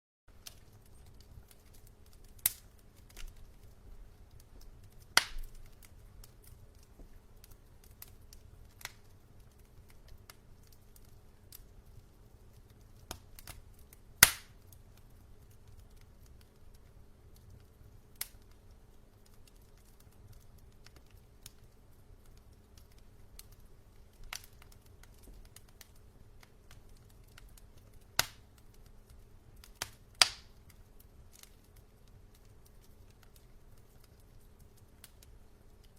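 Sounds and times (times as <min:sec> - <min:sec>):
logs crackling and popping in fire: 0:00.3 - 0:35.9.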